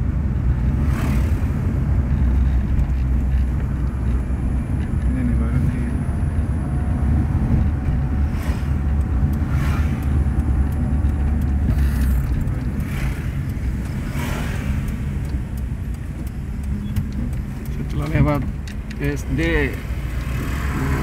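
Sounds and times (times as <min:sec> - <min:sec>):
car engine and tyre rumble: 0:00.0 - 0:21.0
motorbikes passing: 0:00.0 - 0:21.0.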